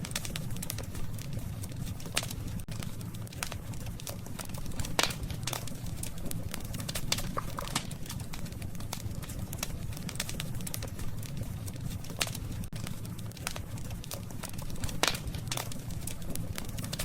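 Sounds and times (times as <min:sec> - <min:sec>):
burning wood hissing: 0:00.0 - 0:17.0
fire flames rumbling: 0:00.0 - 0:17.0
wood fire crackling: 0:00.0 - 0:17.0.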